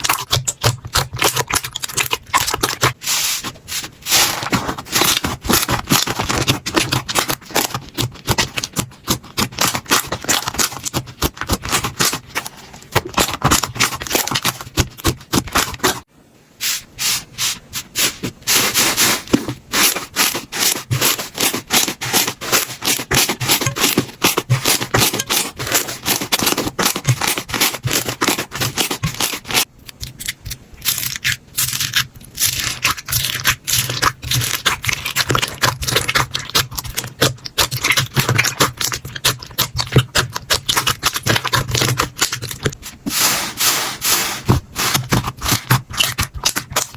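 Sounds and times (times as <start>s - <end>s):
slime squeezed crackling: 0.0s - 16.0s, 17.8s - 43.0s, 44.5s - 46.9s.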